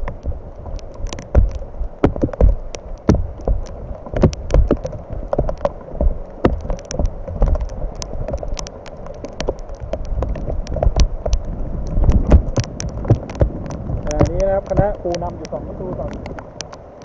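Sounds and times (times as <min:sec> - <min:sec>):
rain falling: 0:00.0 - 0:17.0
raindrops tapping on microphone: 0:00.0 - 0:17.0.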